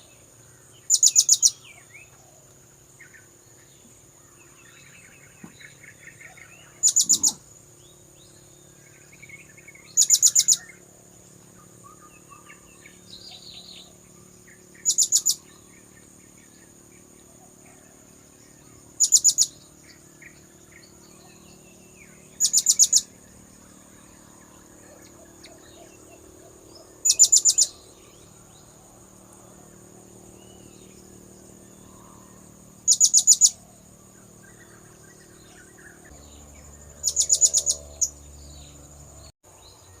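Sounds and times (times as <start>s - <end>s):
faint birds and insects: 0.0s - 40.0s.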